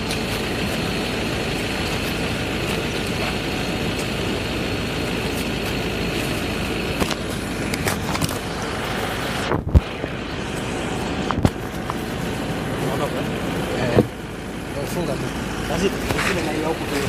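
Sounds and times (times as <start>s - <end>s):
idling engines rumble and hiss: 0.0s - 17.0s.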